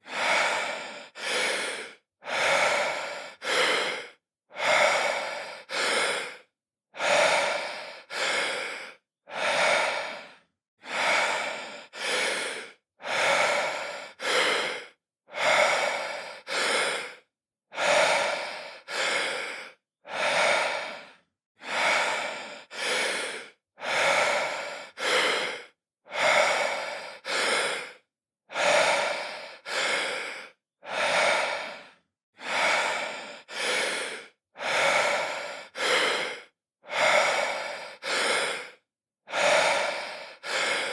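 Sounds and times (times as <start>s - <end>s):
man breathing deeply: 0.0s - 40.9s.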